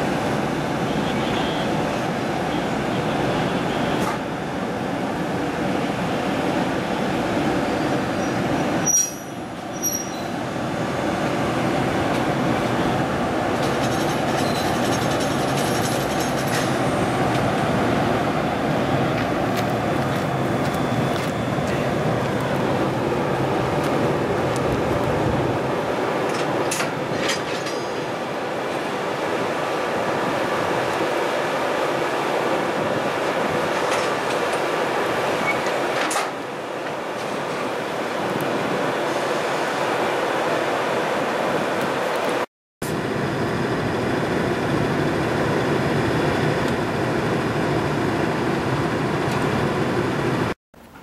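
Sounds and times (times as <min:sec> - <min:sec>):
electric locomotive mechanical noise: 0:00.0 - 0:51.0.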